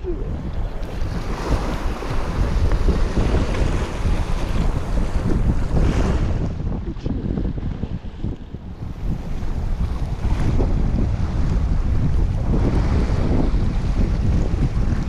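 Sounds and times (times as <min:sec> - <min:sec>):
waves on rocky shore: 0:00.0 - 0:15.0
wind buffeting microphone: 0:00.0 - 0:15.0.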